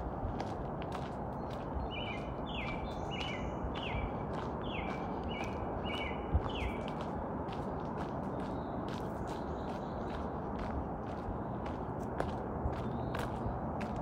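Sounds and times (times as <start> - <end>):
footsteps on gravel: 0.0 - 14.0.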